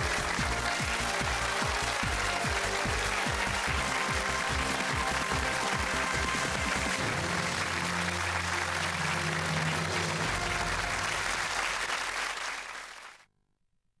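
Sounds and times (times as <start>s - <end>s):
audience applause: 0.0s - 13.3s.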